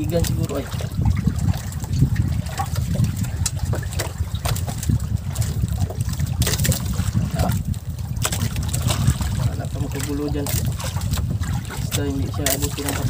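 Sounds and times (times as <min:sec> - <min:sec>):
low rumble: 0:00.0 - 0:13.0
short splashes and clicks: 0:00.0 - 0:13.0
water lapping against boat hull: 0:00.0 - 0:13.0.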